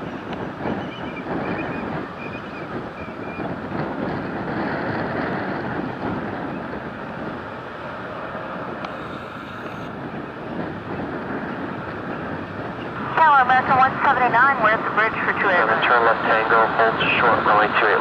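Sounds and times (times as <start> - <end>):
jet engines roaring: 0.0 - 18.0
wind noise on microphone: 0.0 - 18.0.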